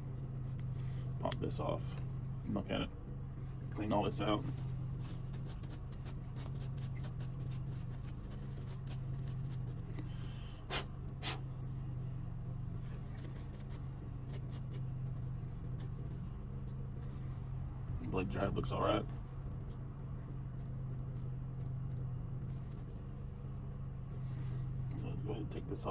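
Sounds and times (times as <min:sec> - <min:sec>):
steady low hum: 0:00.0 - 0:25.9
light scratching and clicks: 0:00.2 - 0:02.6, 0:03.8 - 0:10.8, 0:12.8 - 0:25.9.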